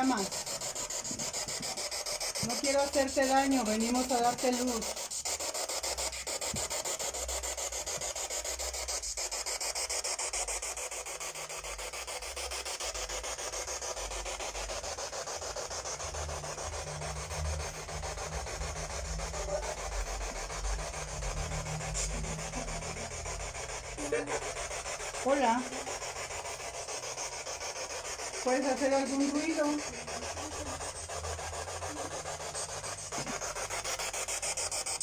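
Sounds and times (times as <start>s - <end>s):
fast even pulsing: 0.0s - 10.0s, 13.3s - 35.0s.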